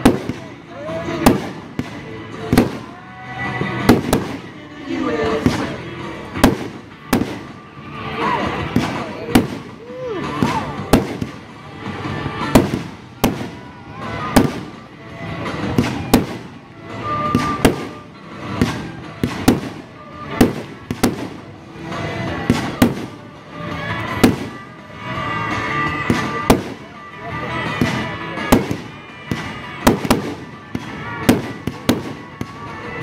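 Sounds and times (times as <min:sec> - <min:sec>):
fireworks crackling and rumble: 0:00.0 - 0:33.0.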